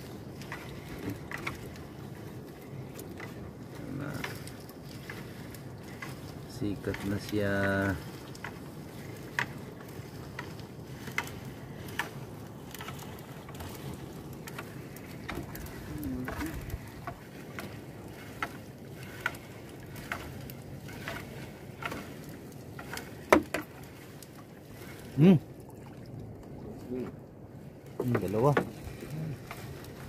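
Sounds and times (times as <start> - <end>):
water noise: 0.0 - 30.0.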